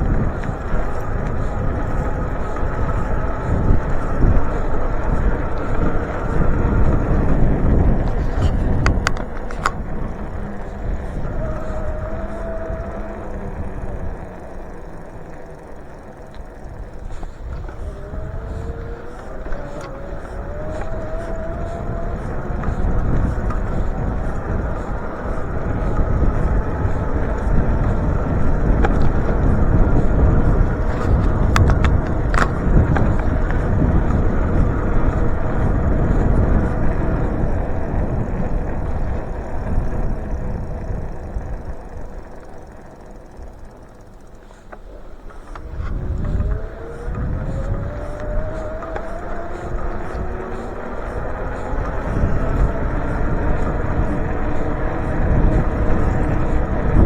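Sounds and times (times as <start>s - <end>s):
faint rising whine: 0.0s - 57.0s
road rumble: 0.0s - 57.0s
wind buffeting microphone: 0.0s - 57.0s.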